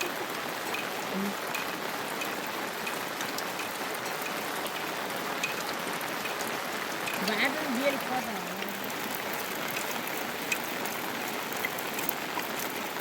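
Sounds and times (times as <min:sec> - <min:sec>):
drops dripping on surfaces: 0:00.0 - 0:13.0
heavy rain falling: 0:00.0 - 0:13.0.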